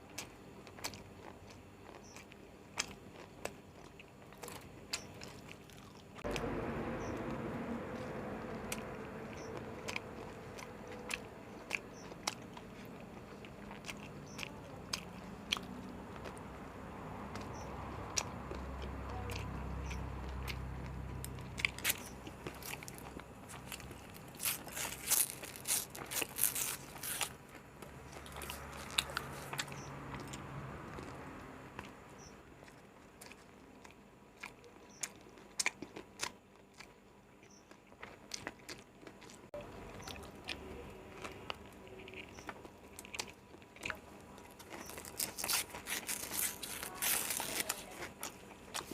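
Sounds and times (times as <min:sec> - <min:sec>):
biting and chewing food: 0:00.0 - 0:48.9.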